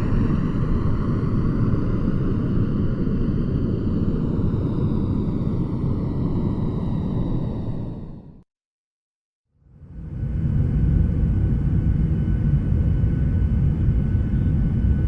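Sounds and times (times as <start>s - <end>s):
airplane engines rumbling: 0.0s - 8.4s, 9.7s - 15.0s.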